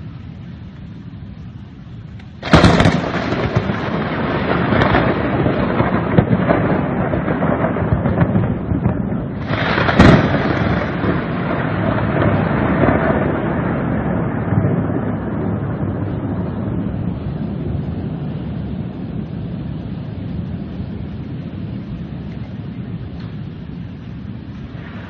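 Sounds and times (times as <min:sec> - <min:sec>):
thunder rumbling: 0:00.0 - 0:25.0
thunderclap: 0:02.2 - 0:25.0.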